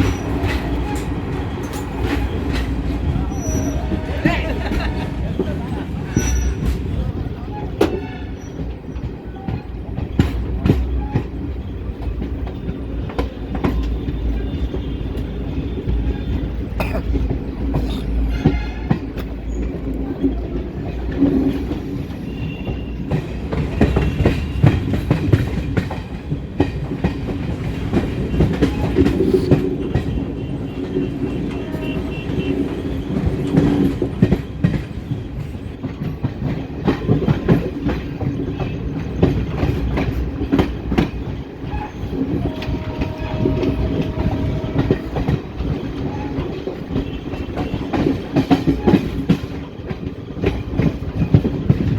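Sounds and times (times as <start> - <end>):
train wheels rumbling on rails: 0.0 - 51.9
wheels clicking over rail joints: 0.0 - 51.9.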